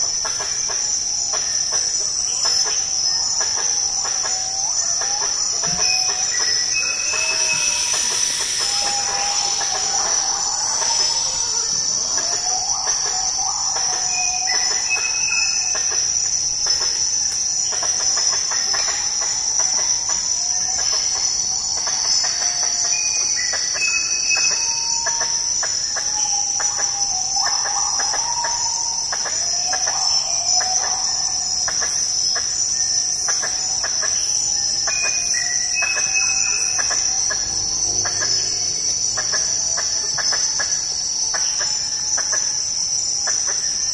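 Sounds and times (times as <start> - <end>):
insects droning: 0.0 - 43.9
short insect calls: 0.0 - 43.9.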